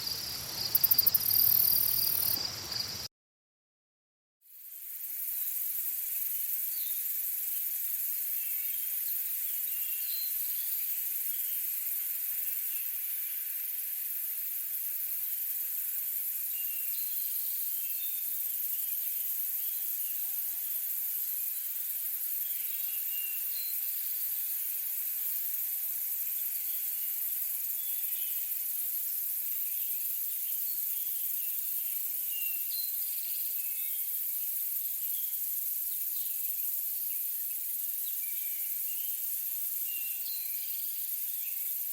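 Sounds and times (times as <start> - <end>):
insect buzzing drone: 0.0 - 3.1, 4.5 - 41.9
short insect chirps: 0.0 - 3.1, 4.5 - 41.9.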